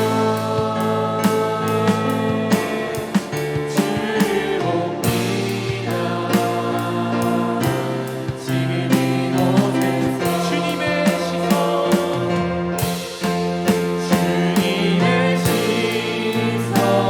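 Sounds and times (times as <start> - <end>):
group singing: 0.0 - 17.0.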